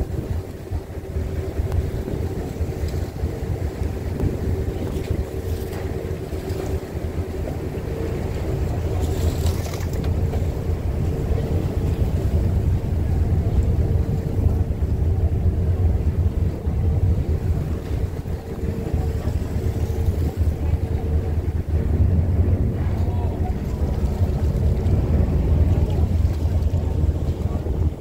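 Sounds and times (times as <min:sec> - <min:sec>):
ship engine droning: 0:00.0 - 0:28.0.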